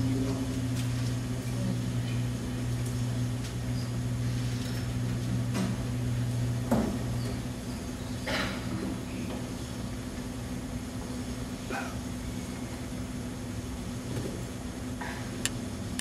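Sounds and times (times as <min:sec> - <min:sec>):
guitar amplifier hum: 0:00.0 - 0:16.0.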